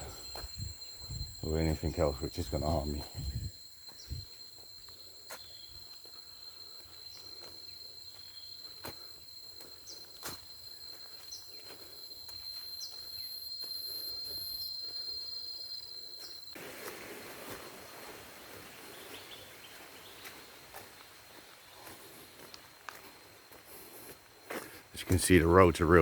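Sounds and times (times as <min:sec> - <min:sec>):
footsteps on trail: 0:00.0 - 0:15.2, 0:16.0 - 0:25.4
insects trilling: 0:00.0 - 0:26.0.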